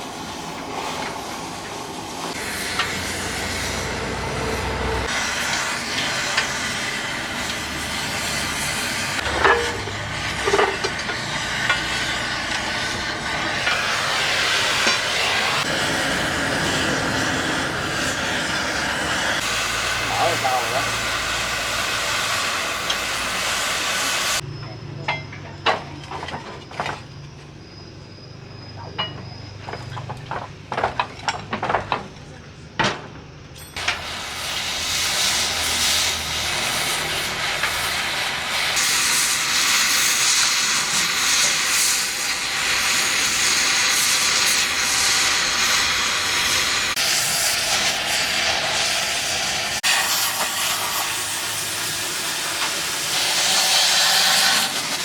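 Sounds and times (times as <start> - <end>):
gas cutting torch hissing: 0.0 - 24.4, 33.8 - 55.0.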